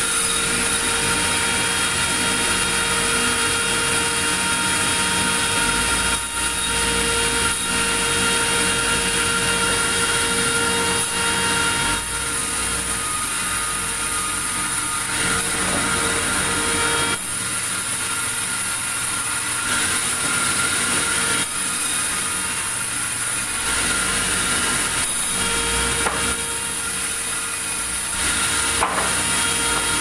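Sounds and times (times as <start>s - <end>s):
machine humming with high whine: 0.0s - 30.0s.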